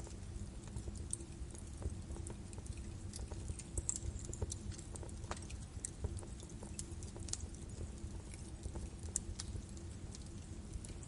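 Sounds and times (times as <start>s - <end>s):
fire crackling and popping: 0.0s - 11.0s
low rumble of flames: 0.0s - 11.0s.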